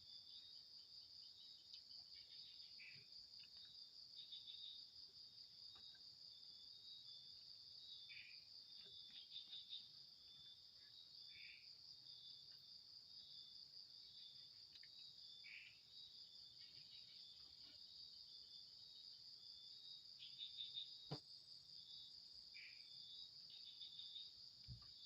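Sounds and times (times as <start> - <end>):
night insects chorus: 0.0 - 25.0.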